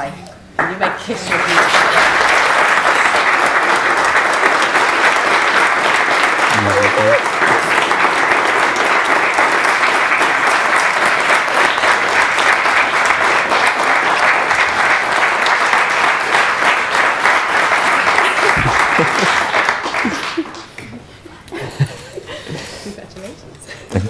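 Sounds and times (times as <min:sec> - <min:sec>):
crowd applauding: 0:00.6 - 0:21.1.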